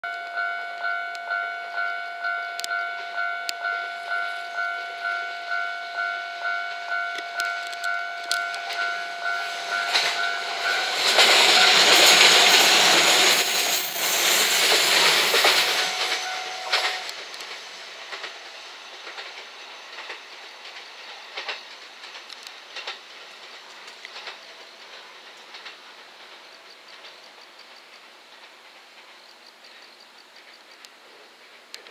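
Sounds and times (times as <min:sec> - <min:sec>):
electric train passing: 0:00.1 - 0:31.9.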